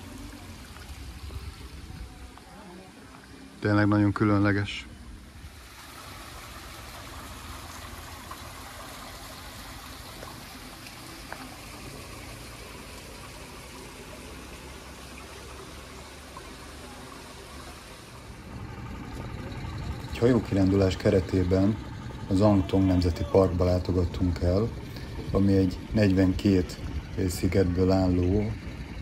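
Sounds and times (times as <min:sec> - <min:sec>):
stream babbling over rocks: 0:00.0 - 0:29.0.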